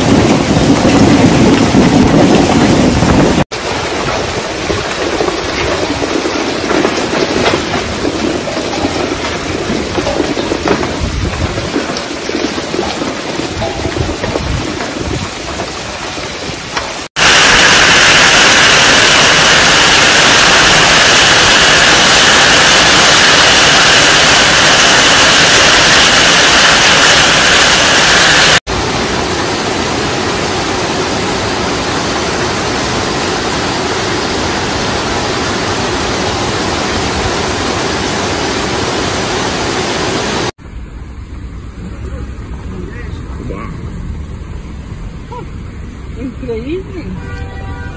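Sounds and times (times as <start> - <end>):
hail and rain pelting down: 0.0 - 40.5.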